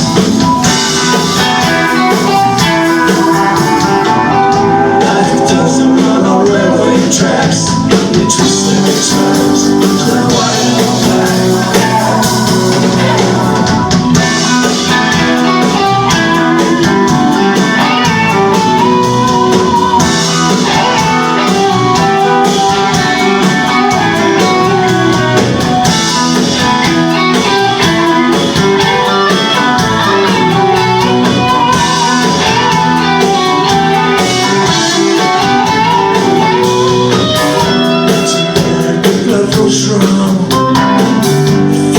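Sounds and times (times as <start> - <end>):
electric guitar: 0.0 - 41.9
live blues-rock band: 0.0 - 41.9.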